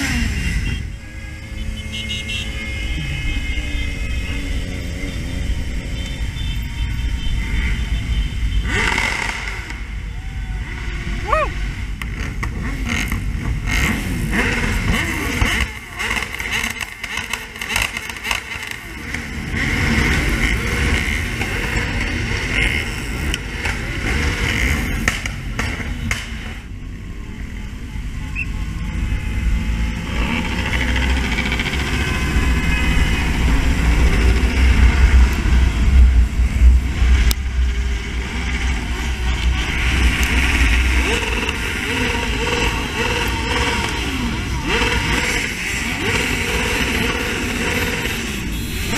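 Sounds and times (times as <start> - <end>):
pack of motorcycle engines: 8.5 - 48.9.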